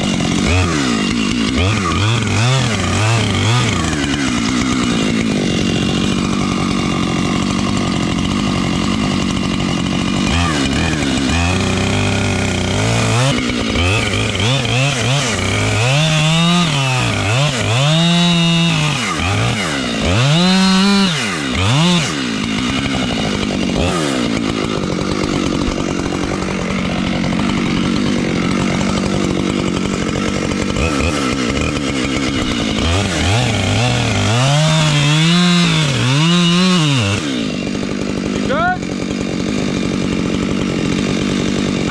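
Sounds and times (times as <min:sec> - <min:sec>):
chainsaw cutting through wood: 0:00.0 - 0:41.9
chainsaw revving: 0:00.0 - 0:41.9.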